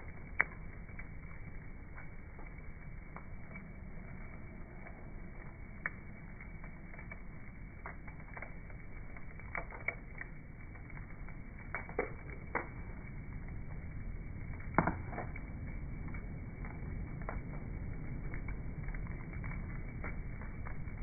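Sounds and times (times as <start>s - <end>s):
burning wood popping: 0.0s - 21.0s
low fire rumble: 0.0s - 21.0s.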